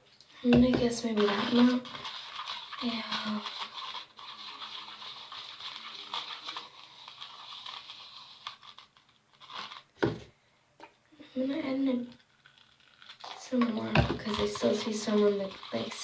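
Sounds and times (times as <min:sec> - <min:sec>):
powder stirred in liquid rustling: 0:00.3 - 0:10.2, 0:11.4 - 0:16.0.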